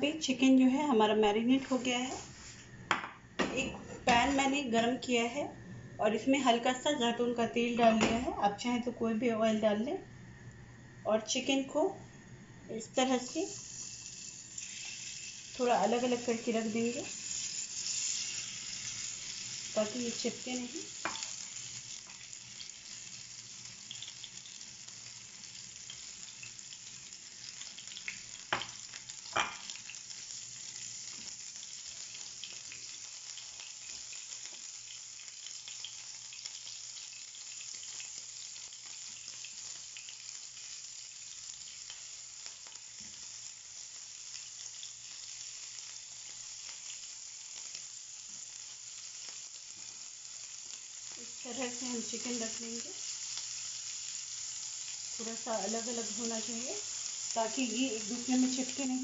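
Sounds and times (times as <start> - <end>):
chicken sizzling in hot oil: 0.0 - 5.4, 12.7 - 59.0.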